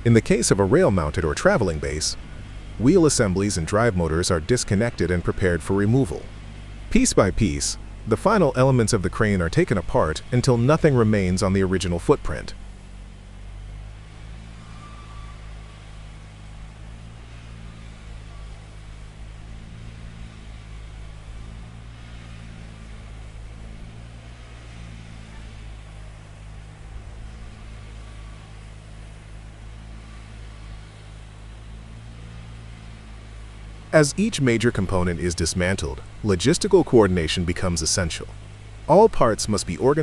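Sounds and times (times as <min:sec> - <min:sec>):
large engine running: 0:00.0 - 0:40.0.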